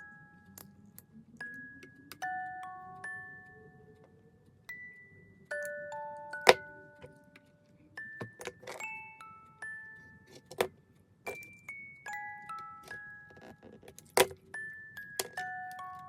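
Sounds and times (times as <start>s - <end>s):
bell-like mallet music: 0.0s - 16.0s.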